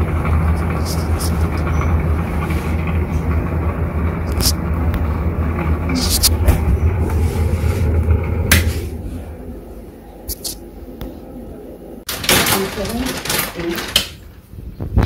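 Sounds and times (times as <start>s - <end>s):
exhaust fan humming: 0.0s - 15.0s.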